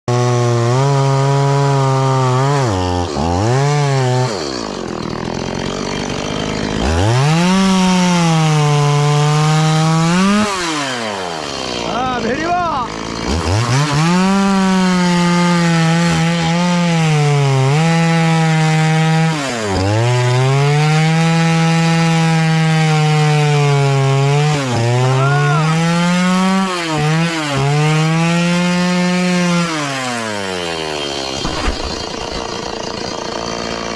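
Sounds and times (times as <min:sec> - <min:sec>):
power saw cutting wood: 0:00.1 - 0:33.9.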